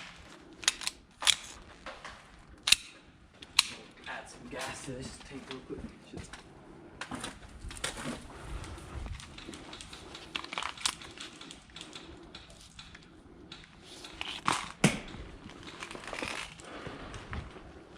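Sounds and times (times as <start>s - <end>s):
rustling and clicks of gas pistol: 0.0s - 17.9s.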